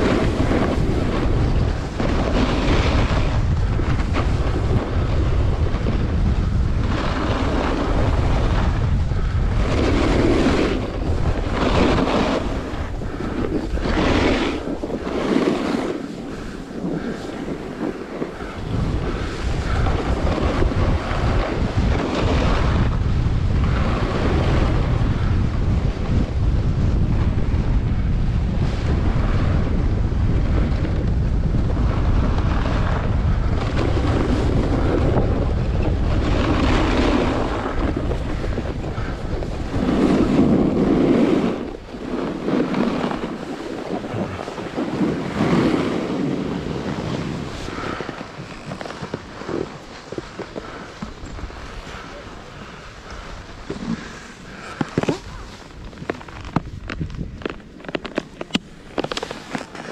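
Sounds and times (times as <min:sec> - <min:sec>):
snowboard scraping over snow: 0:00.0 - 0:59.9
wind buffeting microphone: 0:00.0 - 0:59.9.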